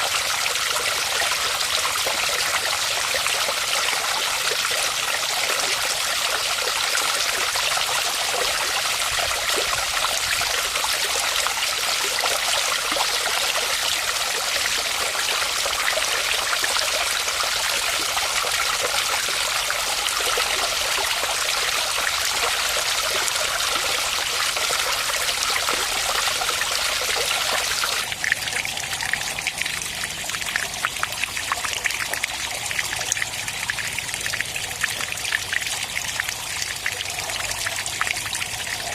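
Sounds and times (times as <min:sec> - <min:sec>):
water trickling and dripping: 0:00.0 - 0:38.9
waterfall pouring into pond: 0:00.0 - 0:38.9.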